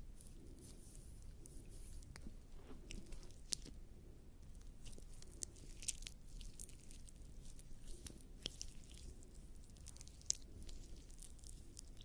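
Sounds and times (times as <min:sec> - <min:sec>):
wet sticky clicks and squelches: 0:01.4 - 0:03.8, 0:04.4 - 0:12.0.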